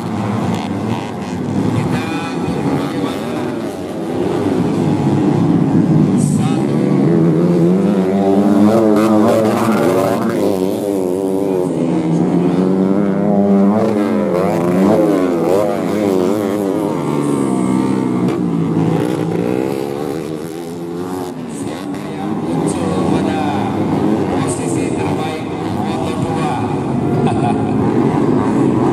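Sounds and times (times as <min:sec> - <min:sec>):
motorcycles revving hard: 0:00.0 - 0:28.9.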